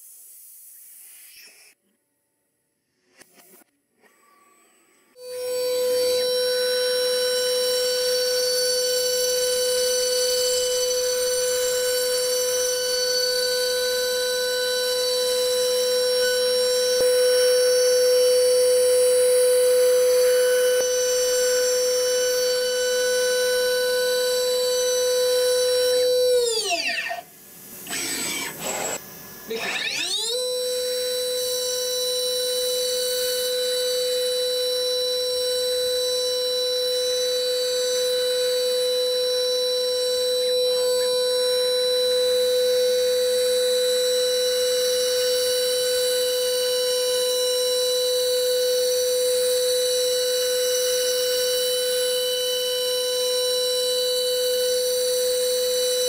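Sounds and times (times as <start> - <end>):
milling machine spindle whining: 5.4 - 56.0.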